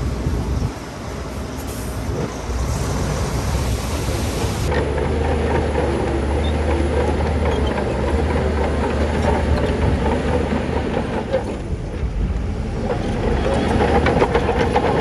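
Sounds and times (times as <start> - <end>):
diesel engine droning: 0.0 - 15.0
steel tracks clanking: 0.0 - 15.0.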